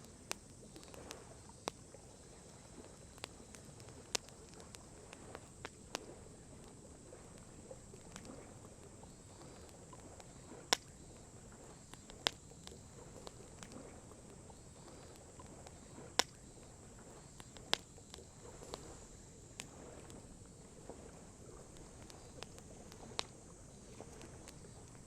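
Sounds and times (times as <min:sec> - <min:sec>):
sharp pops from fire: 0:00.0 - 0:20.5, 0:21.6 - 0:25.0
campfire crackling: 0:00.0 - 0:25.0.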